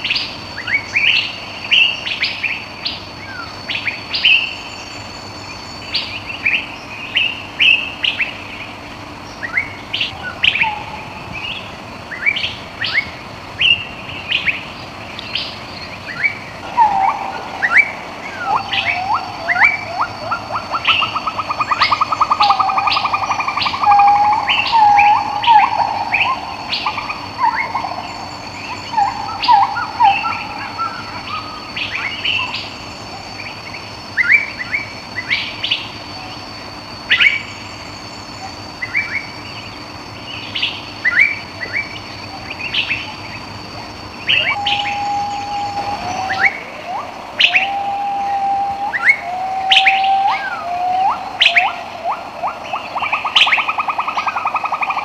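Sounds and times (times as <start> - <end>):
birds chirping: 0.0 - 55.0
thin steady high tone: 0.0 - 55.0.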